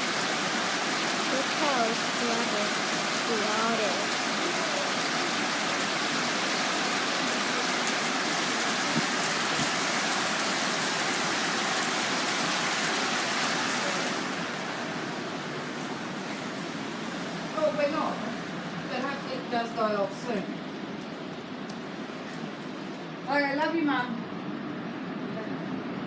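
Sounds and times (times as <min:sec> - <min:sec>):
rain falling: 0:00.0 - 0:23.9.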